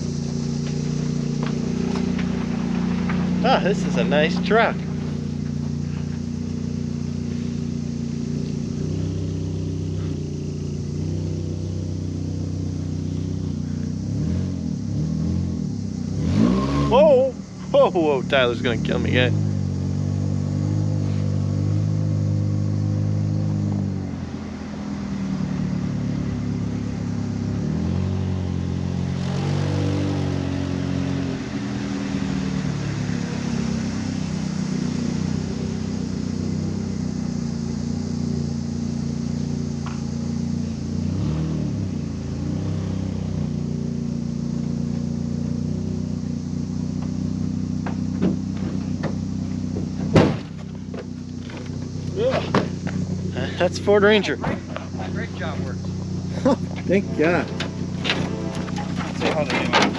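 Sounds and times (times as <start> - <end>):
pickup truck engine revving: 0.0 - 59.9.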